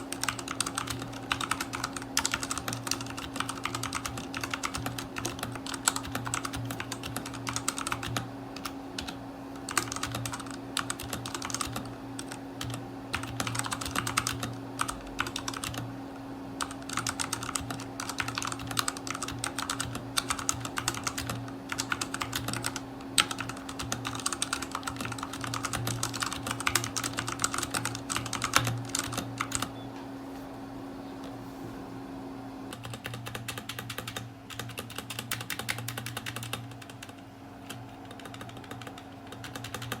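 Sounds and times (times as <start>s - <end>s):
mechanical keyboard typing: 0.0s - 15.9s, 16.6s - 29.8s, 32.7s - 40.0s
steady low hum: 0.0s - 40.0s.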